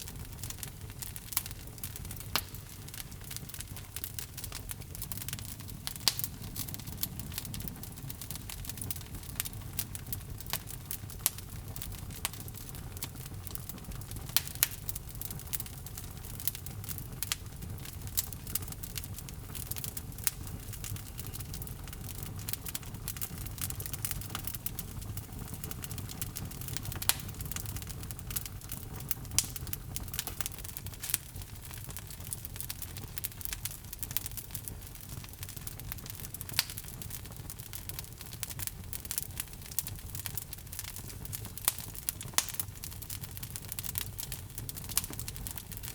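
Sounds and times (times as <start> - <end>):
logs crackling in a fireplace: 0.0 - 45.9.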